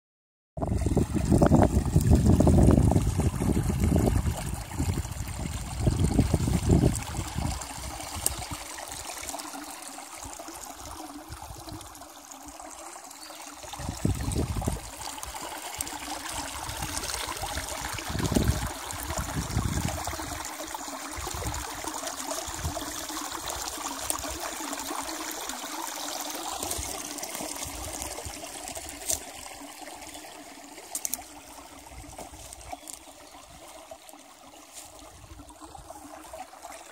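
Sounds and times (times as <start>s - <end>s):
brook trickling over stones: 0.6s - 36.9s.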